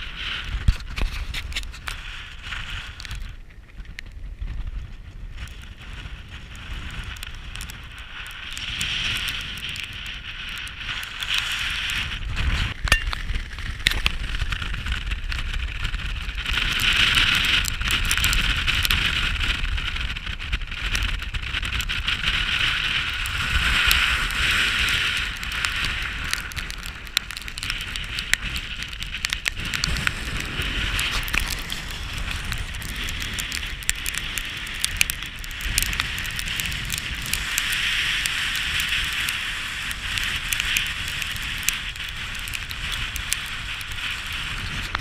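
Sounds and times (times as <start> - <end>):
sharp crackles and clicks: 0.0 - 45.0
wind buffeting microphone: 0.0 - 45.0.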